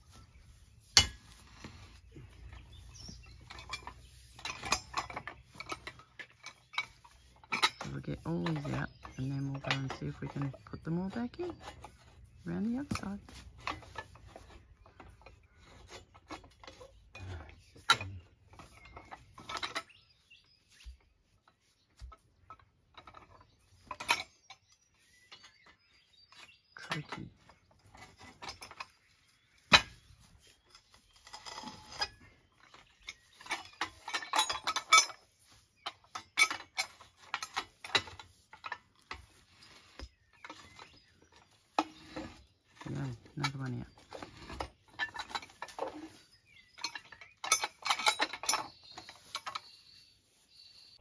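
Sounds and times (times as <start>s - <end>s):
metal post puller clanking: 0.0s - 20.2s, 22.0s - 49.9s.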